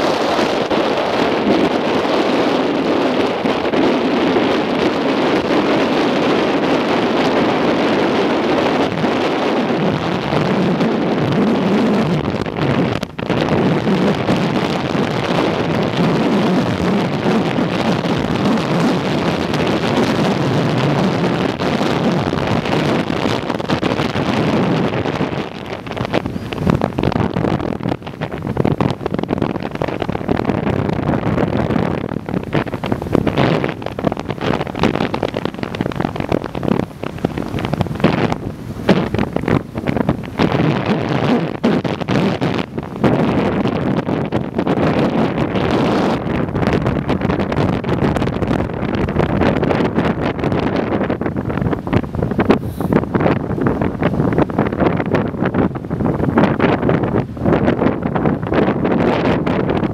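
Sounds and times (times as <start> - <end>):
boat motor running: 0.0 - 59.9
churning water rushing: 0.0 - 59.9
wind buffeting microphone: 0.0 - 59.9.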